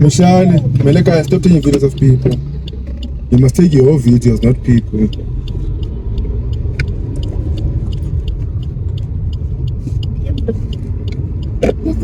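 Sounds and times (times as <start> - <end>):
car engine rumble: 0.0 - 12.0
road noise inside car: 0.0 - 12.0.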